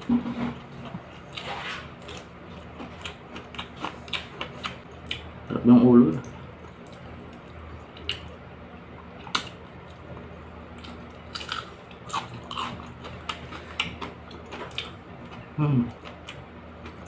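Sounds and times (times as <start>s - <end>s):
crunchy chewing: 0.0s - 5.3s, 6.2s - 17.0s.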